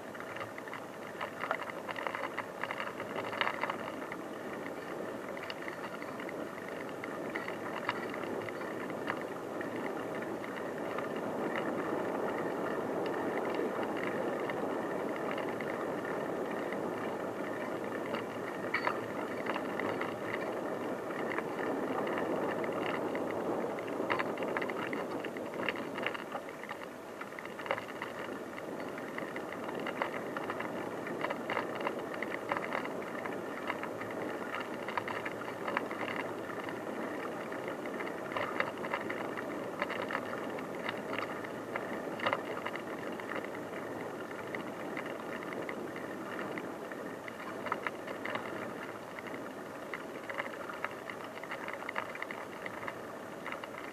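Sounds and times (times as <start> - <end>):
bicycle tyres rolling on dirt: 0.0 - 53.9
bike rattling over bumps: 0.0 - 53.9.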